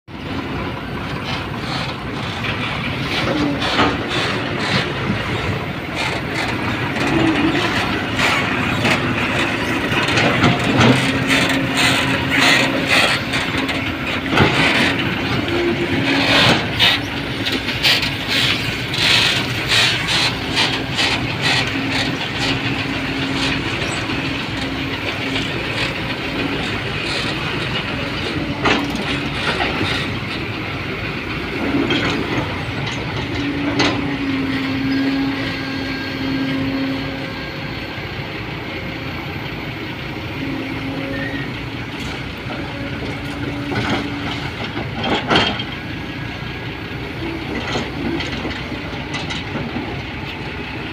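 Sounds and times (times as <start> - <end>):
heavy vehicle engine hum: 0.0 - 50.9
rattles and clunks: 1.1 - 35.2, 41.9 - 50.6.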